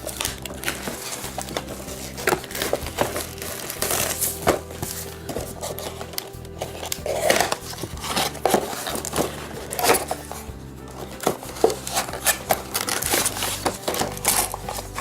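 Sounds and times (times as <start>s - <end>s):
background music: 0.0s - 15.0s
plastic packaging crinkling: 0.0s - 15.0s.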